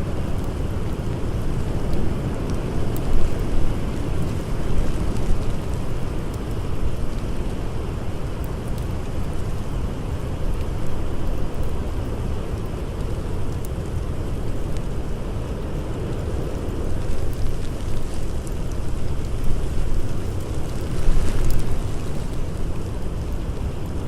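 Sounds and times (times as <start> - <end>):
blizzard wind howling: 0.0 - 24.0
campfire crackling: 0.0 - 24.0.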